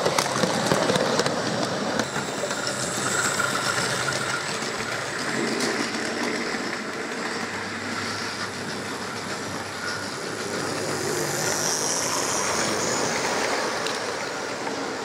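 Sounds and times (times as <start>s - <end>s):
model train wheels rattling on rails: 0.0s - 15.0s.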